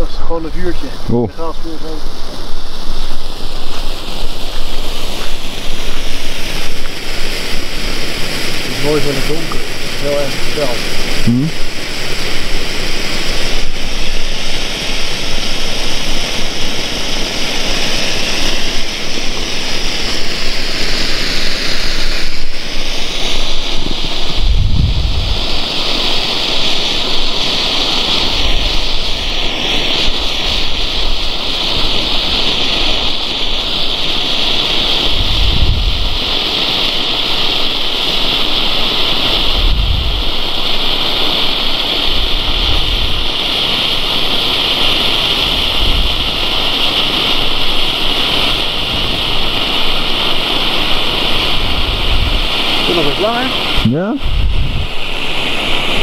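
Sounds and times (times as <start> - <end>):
wind rumble on microphone: 0.0 - 37.8, 39.2 - 56.0
flare burning with loud hiss: 0.0 - 56.0.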